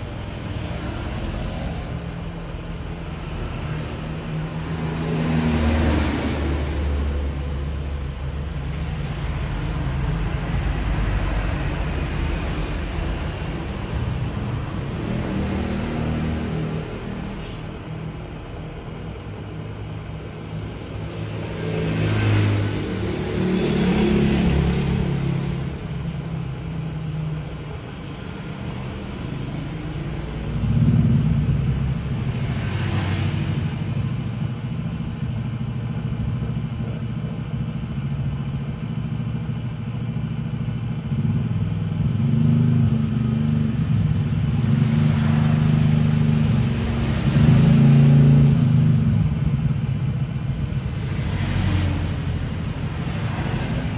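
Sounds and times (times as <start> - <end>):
vehicle engines running: 0.0 - 53.9.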